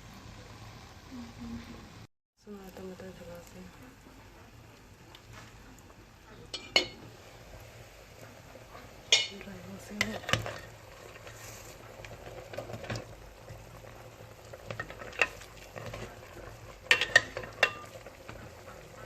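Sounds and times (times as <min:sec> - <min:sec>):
chicken sizzling in a pot: 0:00.0 - 0:19.0.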